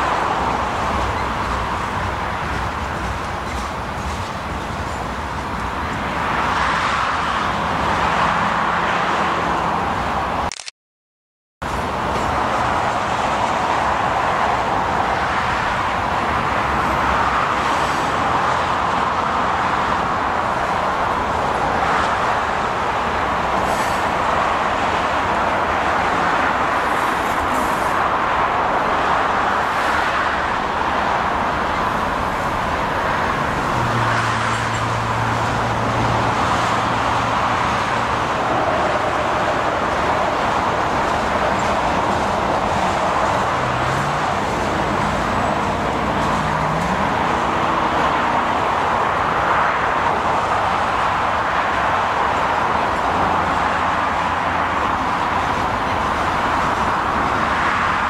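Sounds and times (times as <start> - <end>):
freight train wheels rumbling: 0.0 - 8.7, 11.6 - 58.0.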